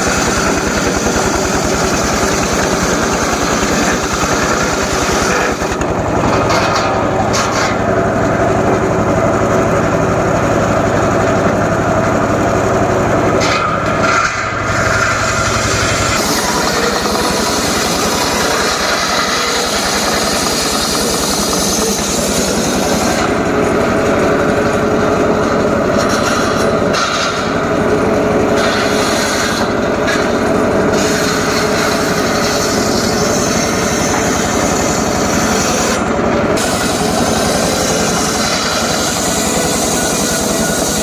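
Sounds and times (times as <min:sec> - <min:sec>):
circular saw cutting logs: 0:00.0 - 0:41.0.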